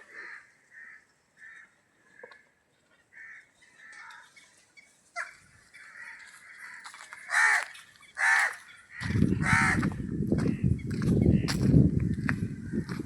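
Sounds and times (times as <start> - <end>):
crows cawing faintly: 0.0 - 13.0
other birds calling: 0.0 - 13.0.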